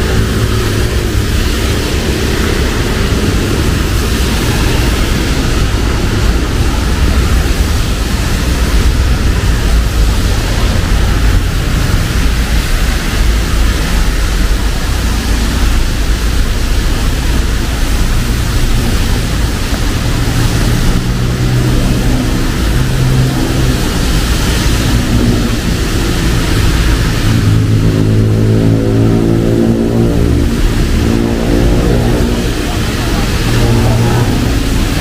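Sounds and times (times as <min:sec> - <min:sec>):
low droning hum: 0:00.0 - 0:35.0
rain hissing: 0:00.0 - 0:35.0
tyres on wet road: 0:00.0 - 0:35.0.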